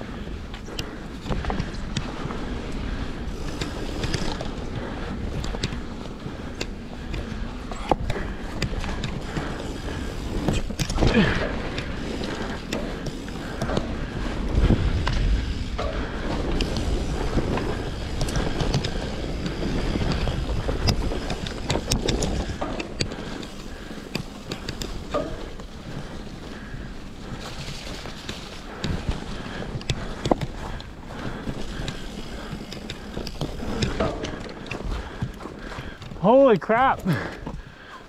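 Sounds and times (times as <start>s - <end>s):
wind buffeting microphone: 0.0s - 36.2s
bike rattling: 0.0s - 38.0s
bike tyres crunching over stones: 0.0s - 38.0s.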